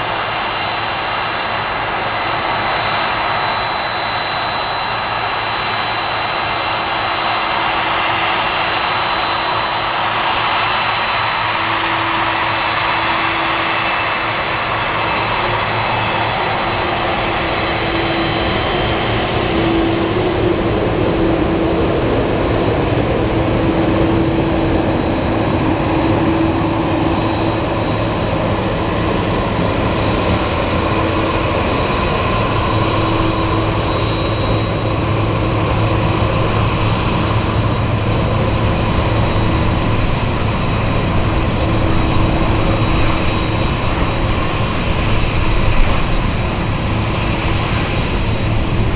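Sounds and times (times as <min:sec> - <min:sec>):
high engine whine: 0:00.0 - 0:48.9
jet engines running: 0:00.0 - 0:48.9.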